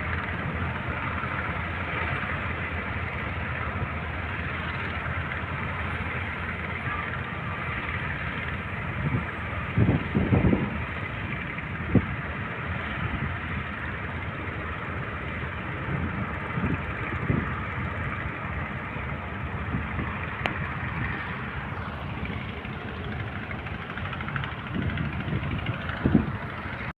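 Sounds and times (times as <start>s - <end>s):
rushing water noise: 0.0s - 26.9s.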